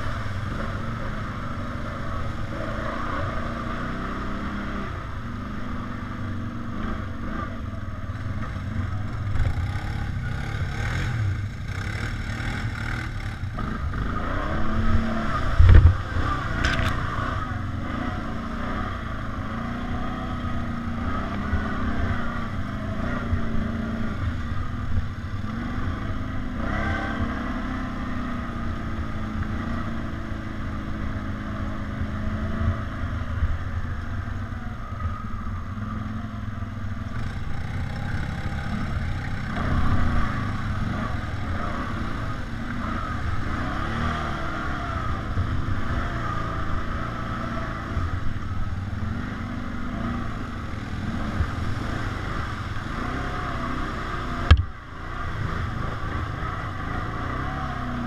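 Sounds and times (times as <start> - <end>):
atv engine revving: 0.0 - 58.0
low rumble of riding: 0.0 - 58.0.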